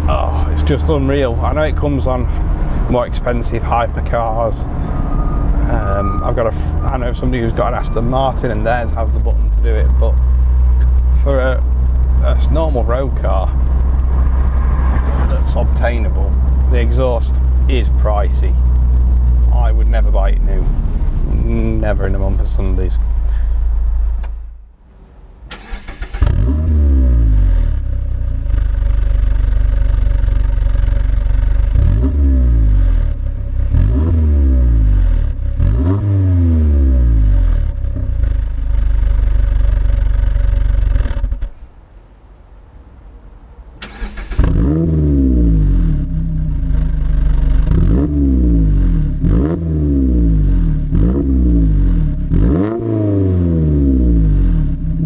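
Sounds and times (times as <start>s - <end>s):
engine revving through exhaust: 0.0s - 24.6s, 25.6s - 41.5s, 43.9s - 55.0s
car engine starting: 0.0s - 55.0s.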